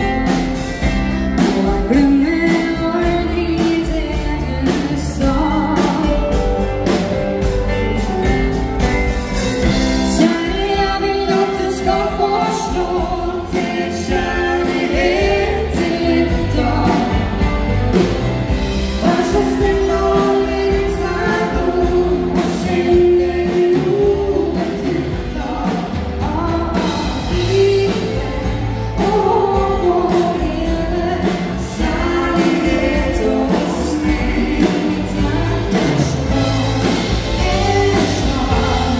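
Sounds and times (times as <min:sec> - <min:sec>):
person singing: 0:00.0 - 0:08.6, 0:09.6 - 0:38.9
live band music: 0:00.0 - 0:38.9.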